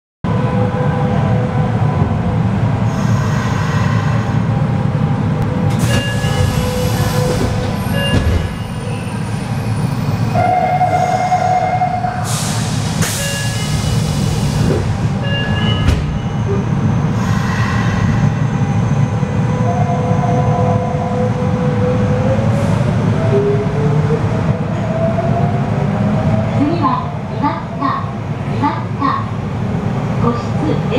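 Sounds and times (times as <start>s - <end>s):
train running rumble: 0.3s - 30.9s.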